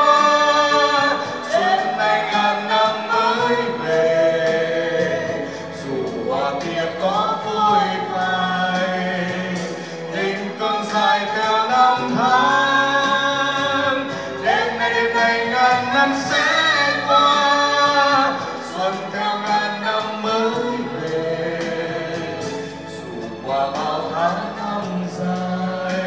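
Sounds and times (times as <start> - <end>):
backing music with beat: 0.0 - 26.0
man and woman singing duet: 0.0 - 26.0.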